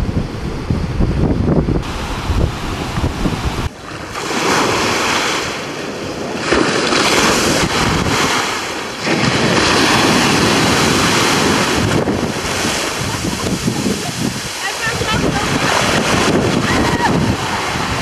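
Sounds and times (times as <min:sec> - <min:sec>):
wind buffeting microphone: 0:00.0 - 0:18.0
ocean surf breaking on rocks: 0:01.2 - 0:18.0.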